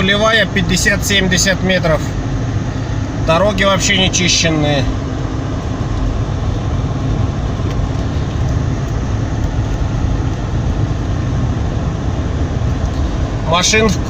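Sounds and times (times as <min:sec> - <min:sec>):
car engine and road rumble: 0:00.0 - 0:14.0
faint hum: 0:00.0 - 0:14.0.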